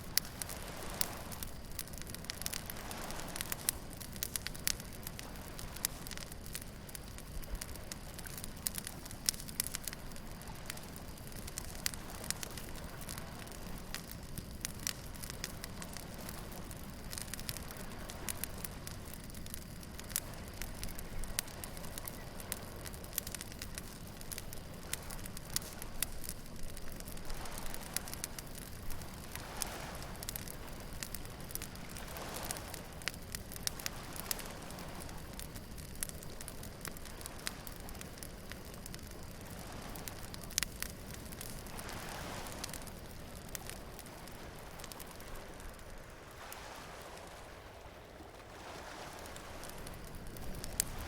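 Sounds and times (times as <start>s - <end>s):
bonfire crackling and popping: 0.0s - 51.0s
waves breaking on beach: 0.0s - 51.0s.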